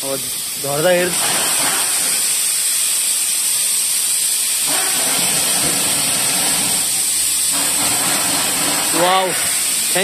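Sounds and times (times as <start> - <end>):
high-pitched hiss: 0.0 - 10.0.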